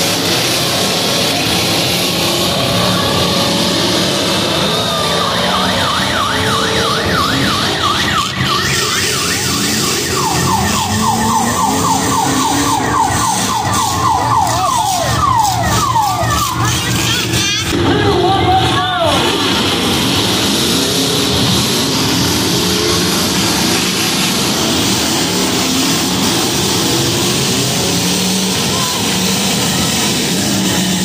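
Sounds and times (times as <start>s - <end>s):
car engines running: 0.0s - 31.0s
electronic siren yelping: 0.5s - 17.8s, 21.3s - 31.0s.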